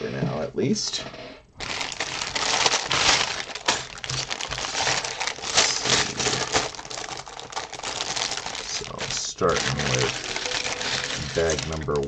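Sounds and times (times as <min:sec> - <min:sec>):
plastic bags crinkling: 0:01.6 - 0:12.0
plastic pieces clinking: 0:01.6 - 0:12.0.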